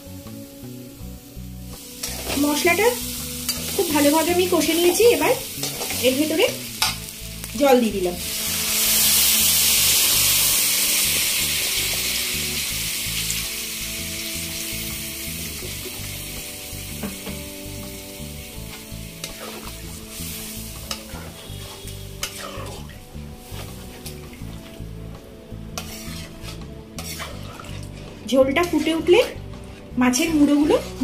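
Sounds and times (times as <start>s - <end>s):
hot oil sizzling with water: 0.0s - 31.0s.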